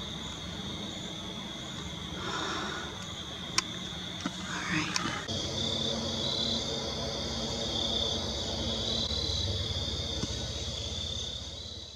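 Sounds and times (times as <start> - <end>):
night insects trilling: 0.0 - 11.9.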